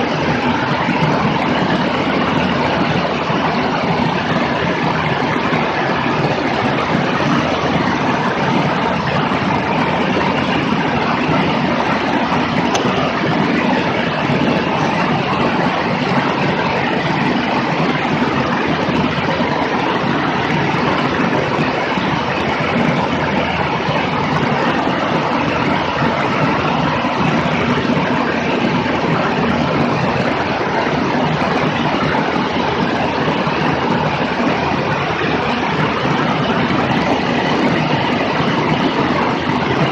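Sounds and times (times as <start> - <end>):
airplane engine drone: 0.0 - 39.9
wind rushing over microphone: 0.0 - 39.9.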